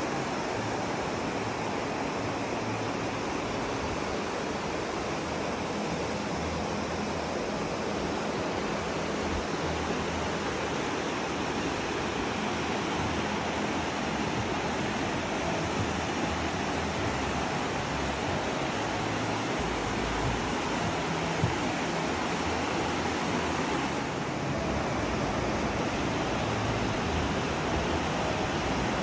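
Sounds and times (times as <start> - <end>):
water rushing through a gorge: 0.0 - 29.0.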